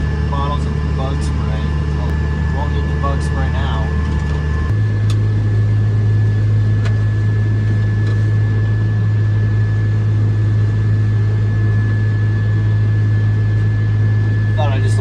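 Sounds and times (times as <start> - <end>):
farm machine engine droning: 0.0 - 15.0.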